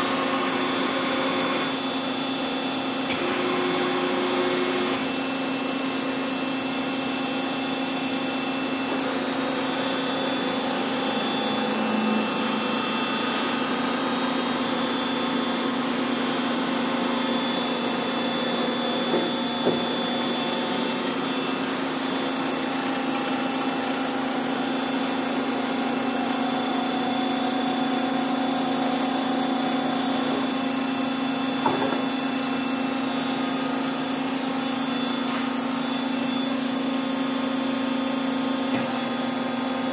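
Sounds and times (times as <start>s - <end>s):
machine hum: 0.0s - 37.8s.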